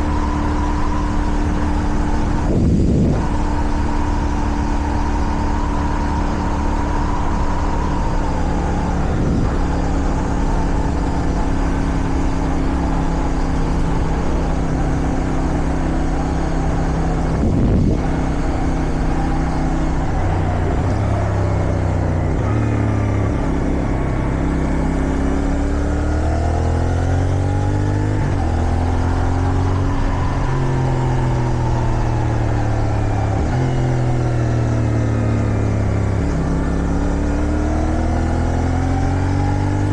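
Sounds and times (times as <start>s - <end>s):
wind noise: 0.0s - 25.4s, 26.1s - 39.9s
motorcycle engine revving: 0.0s - 39.9s.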